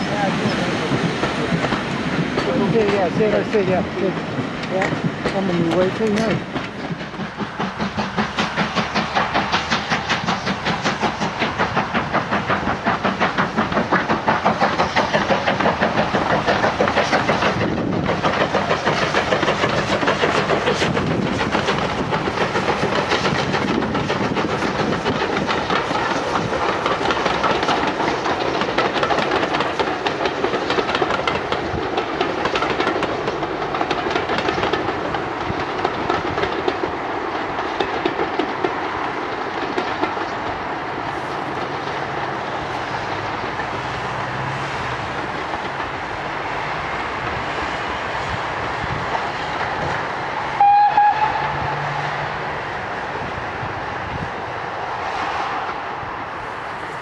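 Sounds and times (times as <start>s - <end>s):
wheels clattering on rails: 0.0s - 54.3s
steam locomotive exhaust beats: 0.0s - 57.0s.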